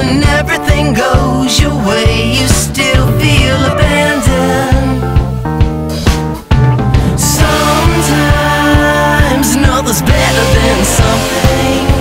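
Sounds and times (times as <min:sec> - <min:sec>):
song with singing over a beat: 0:00.0 - 0:05.5, 0:07.0 - 0:12.0.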